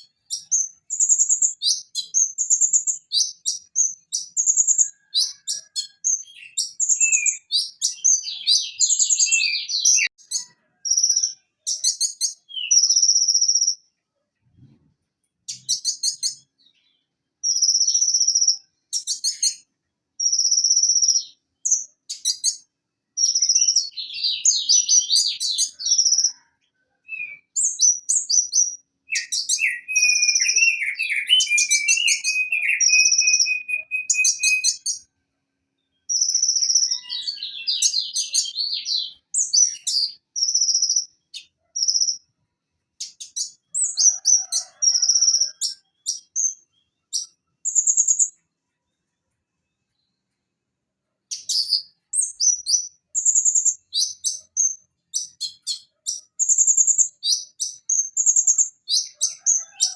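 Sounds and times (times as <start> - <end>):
bird singing high rapid phrases: 0.0 - 14.0, 15.4 - 26.5, 27.1 - 35.1, 35.8 - 42.3, 43.0 - 48.4, 51.3 - 59.9.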